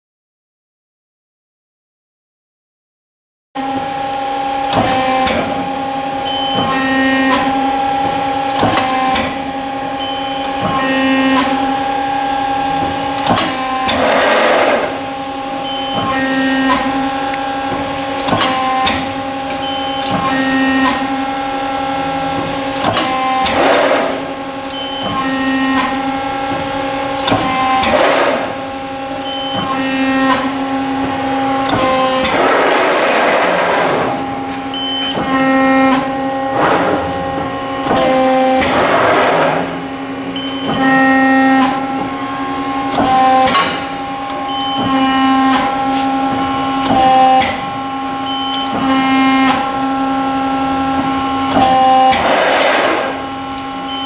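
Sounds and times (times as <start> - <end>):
hydraulic pump hum: 3.6 - 54.0.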